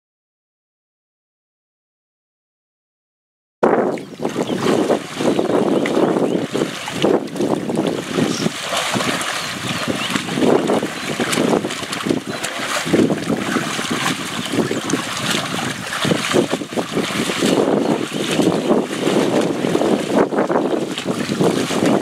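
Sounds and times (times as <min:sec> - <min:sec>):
wind buffeting microphone: 0:03.6 - 0:22.0.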